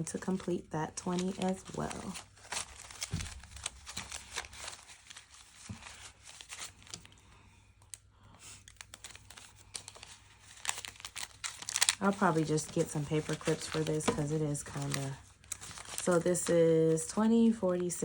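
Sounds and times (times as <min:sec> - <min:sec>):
paper rustling and crinkling: 0:00.2 - 0:18.0.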